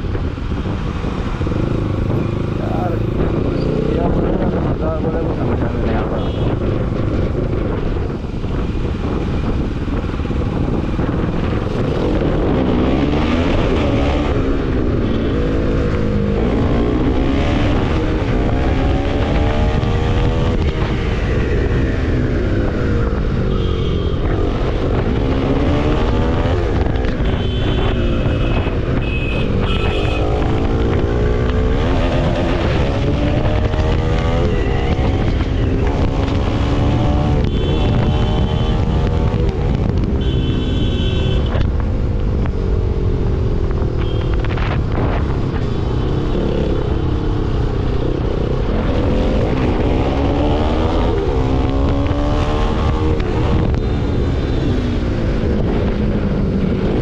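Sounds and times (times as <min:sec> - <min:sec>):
motorcycle engine accelerating: 0:00.0 - 0:40.2, 0:41.2 - 0:57.0.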